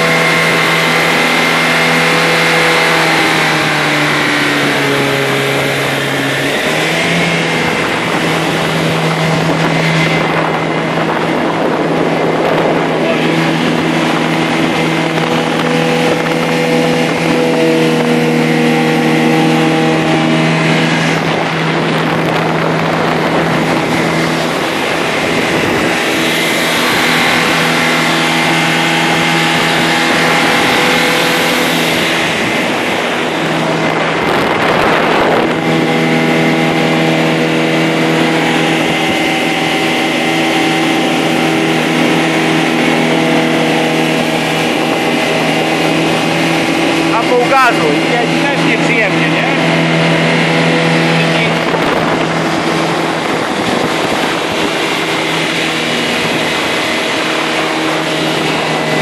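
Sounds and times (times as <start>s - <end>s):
motorboat engine running: 0.0s - 59.0s
water rushing past hull: 0.0s - 59.0s.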